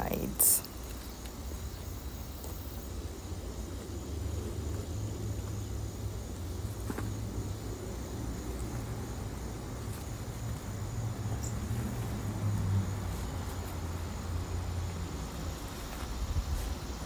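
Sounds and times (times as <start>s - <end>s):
distant city traffic rumble: 0.0s - 17.0s.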